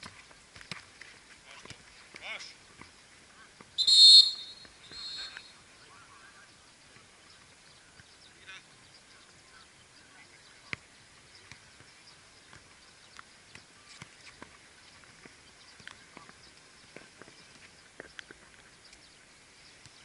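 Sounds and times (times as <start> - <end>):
ball touches and footsteps: 0.0 - 5.5, 6.9 - 9.5, 10.6 - 19.1
distant voices calling: 3.7 - 19.9.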